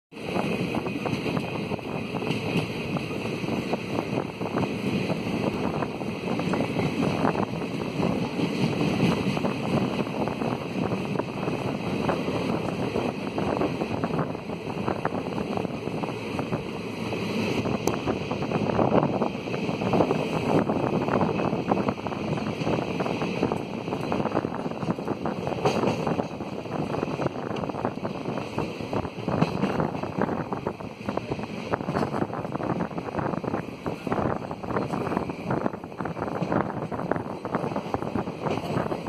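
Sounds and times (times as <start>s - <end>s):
train wheels rumbling on rails: 0.1s - 39.0s
wind on microphone: 0.2s - 39.0s.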